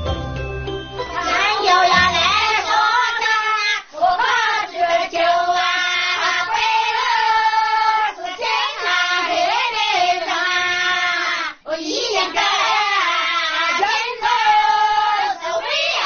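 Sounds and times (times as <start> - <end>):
women singing unaccompanied: 1.2 - 16.0.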